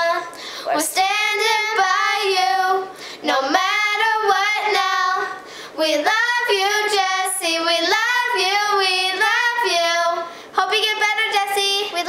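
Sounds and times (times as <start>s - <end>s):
girls singing unaccompanied: 0.0s - 12.0s.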